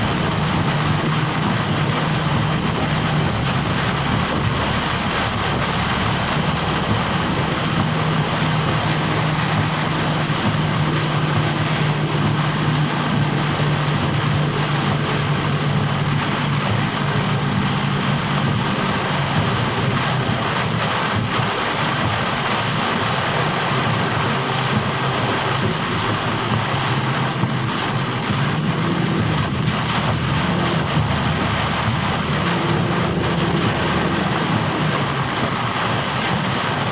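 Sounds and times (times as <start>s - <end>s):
heavy rain and wet road hiss: 0.0s - 36.9s
low engine hum: 0.0s - 36.9s.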